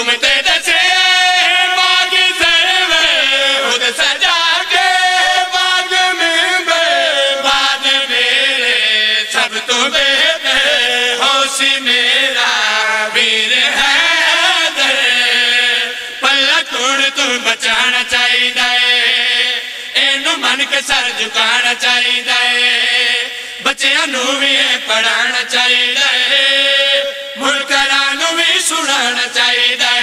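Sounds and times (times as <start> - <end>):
men chanting together: 0.0 - 30.0.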